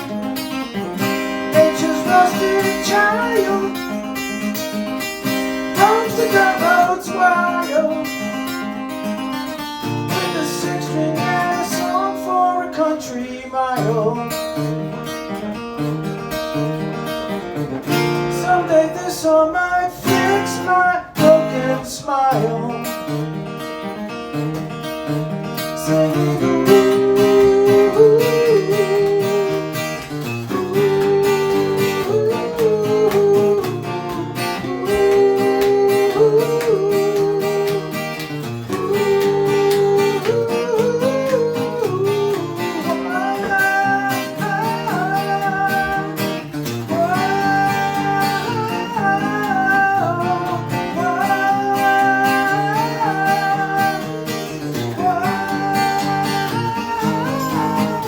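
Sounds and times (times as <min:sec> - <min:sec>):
acoustic guitar cross-picking: 0:00.0 - 0:58.0.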